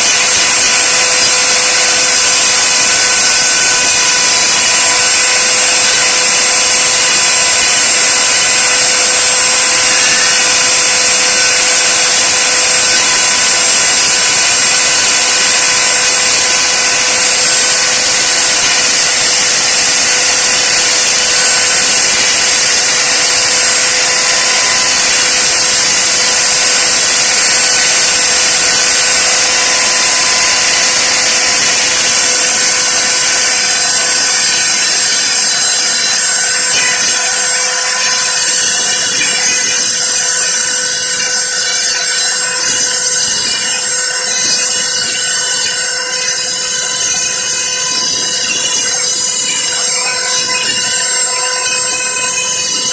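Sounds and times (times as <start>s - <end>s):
router motor whining: 0.0s - 52.9s.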